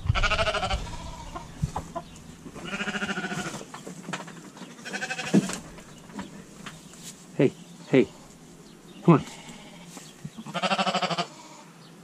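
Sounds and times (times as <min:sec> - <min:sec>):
goat kids bleating: 0:00.0 - 0:03.8, 0:04.7 - 0:06.8, 0:07.8 - 0:11.8.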